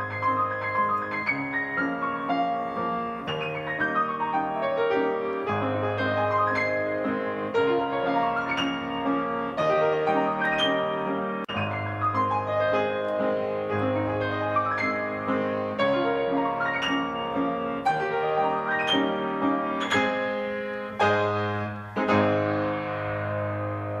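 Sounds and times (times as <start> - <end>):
piano playing slow chords: 0.0 - 24.0.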